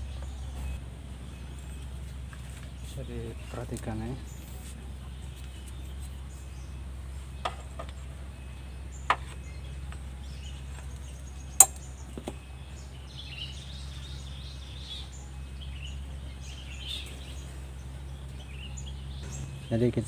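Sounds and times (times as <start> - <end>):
birds chirping faintly: 0.0 - 20.0
steady low hum: 0.0 - 20.0.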